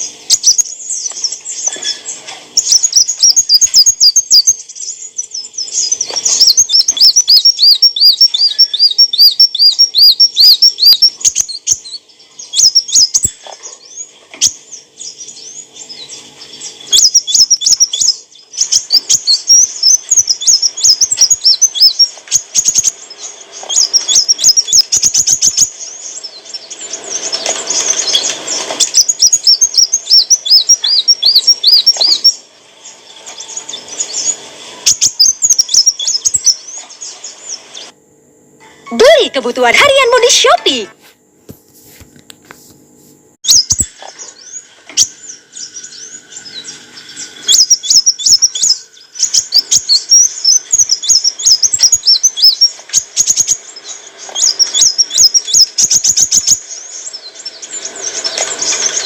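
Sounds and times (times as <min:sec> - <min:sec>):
sunbird singing: 0:00.0 - 0:38.0, 0:38.6 - 0:40.9, 0:43.4 - 0:59.0.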